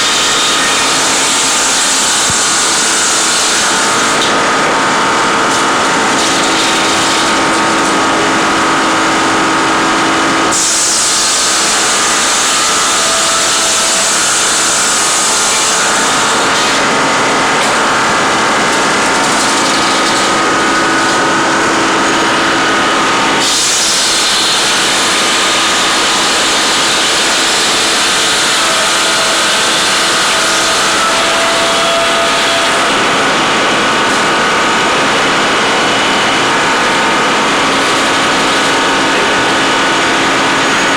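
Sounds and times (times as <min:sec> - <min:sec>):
tree-cutting machinery running: 0:00.0 - 0:40.9.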